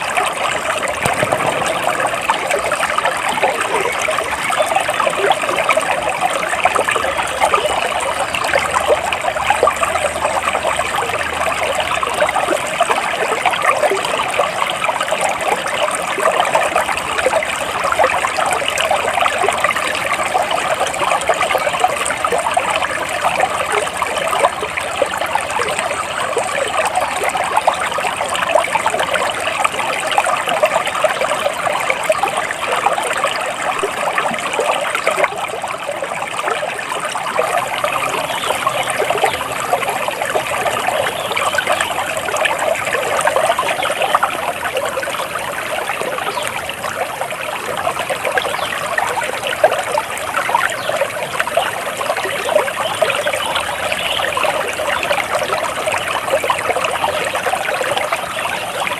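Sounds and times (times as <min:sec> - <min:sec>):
stream trickling and burbling: 0:00.0 - 0:58.9.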